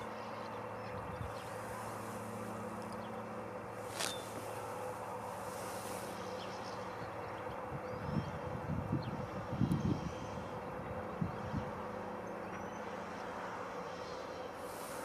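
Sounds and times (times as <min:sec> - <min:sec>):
steady buzzing drone: 0:00.0 - 0:15.0.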